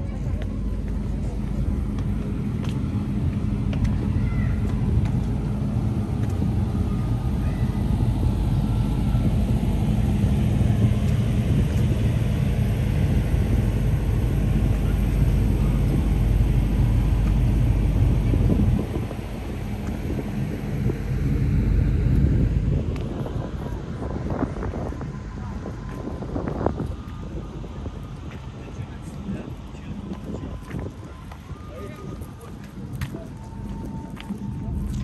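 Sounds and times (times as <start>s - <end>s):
low rumble of town ambience: 0.0s - 35.0s.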